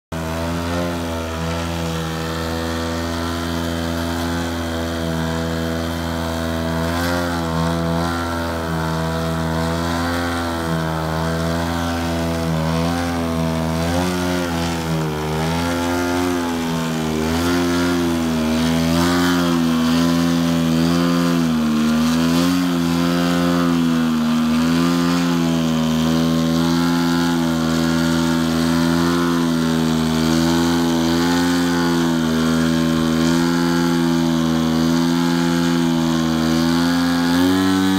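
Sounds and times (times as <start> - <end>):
model plane engine and propeller: 0.1 - 37.9.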